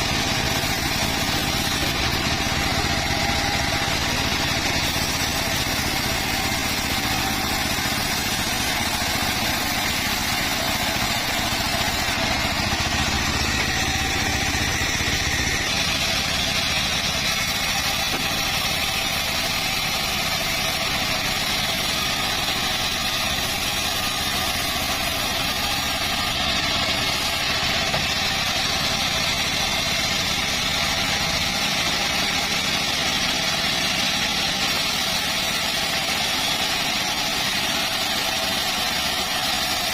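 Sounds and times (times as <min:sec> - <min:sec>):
circular saw running: 0:00.0 - 0:39.9.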